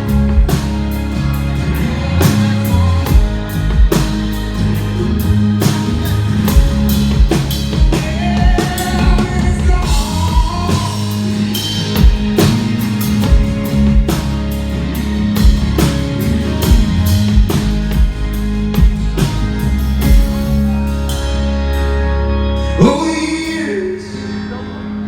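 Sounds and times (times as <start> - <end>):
drum kit steady beat: 0.0 - 21.8
live rock band instrumental: 0.0 - 25.0.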